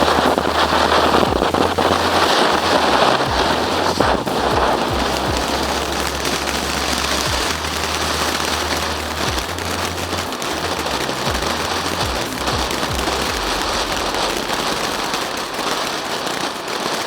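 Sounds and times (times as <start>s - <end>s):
firework hissing and crackling: 0.0s - 17.0s.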